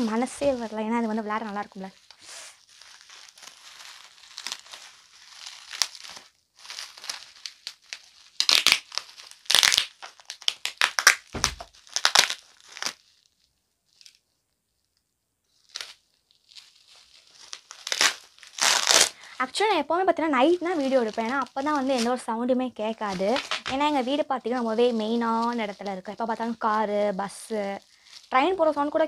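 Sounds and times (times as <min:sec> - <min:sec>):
bubble wrap crinkling and tearing: 0:00.0 - 0:29.0.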